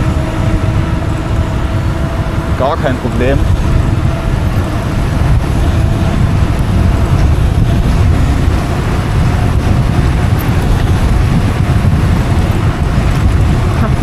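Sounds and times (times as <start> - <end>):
tyre noise on asphalt: 0.0 - 14.0
wind buffeting microphone: 0.0 - 14.0.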